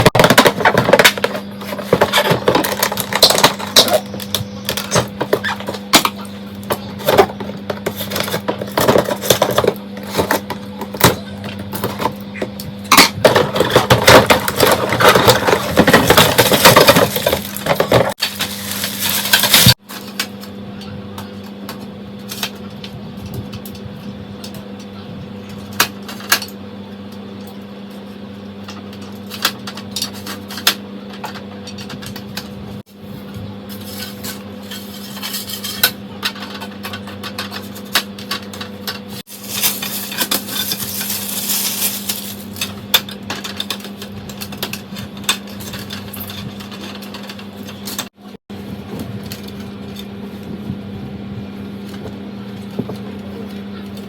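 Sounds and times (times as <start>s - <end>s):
objects crackling and clattering: 0.0s - 26.6s, 28.6s - 50.7s
steady low hum: 0.0s - 54.0s.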